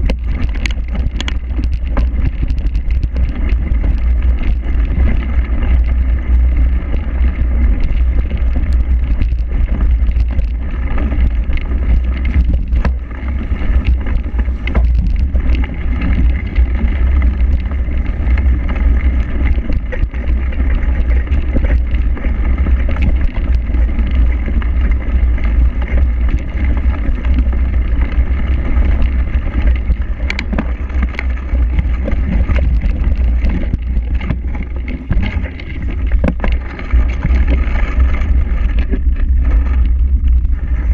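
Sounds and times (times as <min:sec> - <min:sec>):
wind and vibration rumble: 0:00.0 - 0:40.9.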